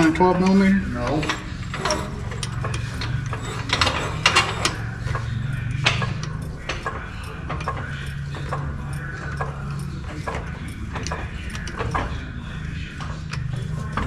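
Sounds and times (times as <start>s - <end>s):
metal tools clinking: 0.0s - 12.4s
steady low hum: 0.0s - 14.0s.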